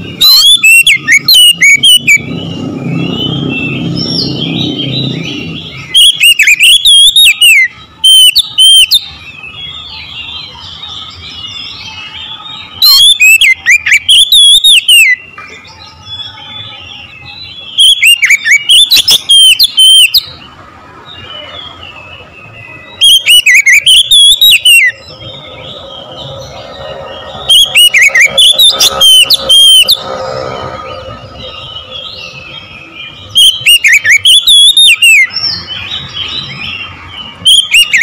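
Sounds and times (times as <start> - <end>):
bird twittering: 0.0 - 38.0
bird whistled song: 0.0 - 38.0.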